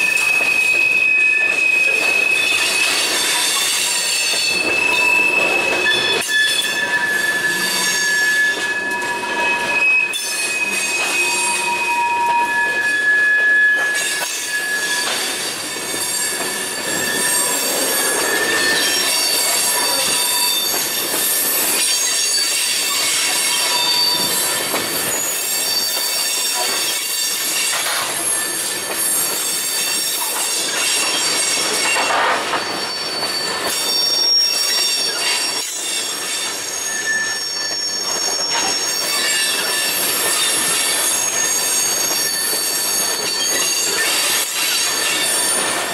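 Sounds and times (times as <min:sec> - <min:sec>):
train wheel clack: 0:00.0 - 0:11.8, 0:13.6 - 0:45.9
freight train rumbling: 0:00.0 - 0:45.9
train wheels squealing on rails: 0:00.0 - 0:45.9.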